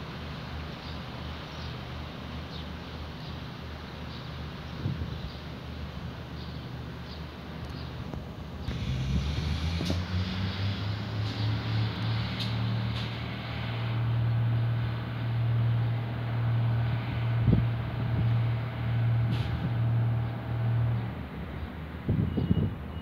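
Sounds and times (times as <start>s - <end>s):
train engines idling: 0.0s - 10.0s, 11.1s - 22.0s.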